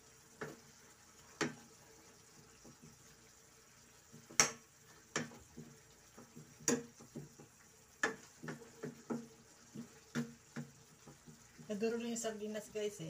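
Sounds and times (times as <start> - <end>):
faint sizzle: 0.0 - 13.0.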